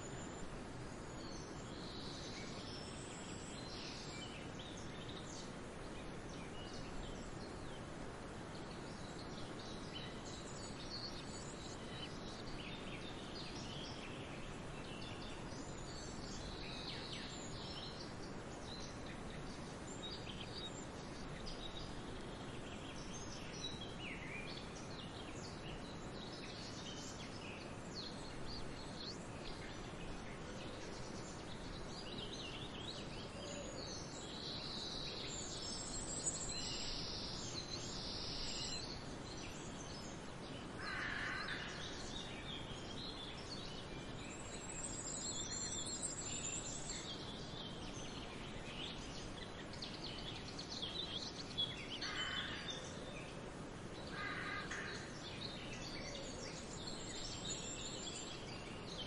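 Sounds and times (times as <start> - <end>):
steady background hiss: 0.0 - 59.0
bird calls and chirps: 8.5 - 59.0.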